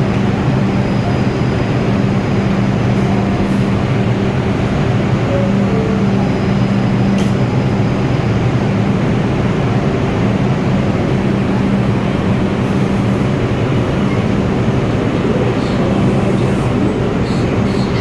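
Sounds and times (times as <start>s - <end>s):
subway train humming and rumbling: 0.0s - 18.0s.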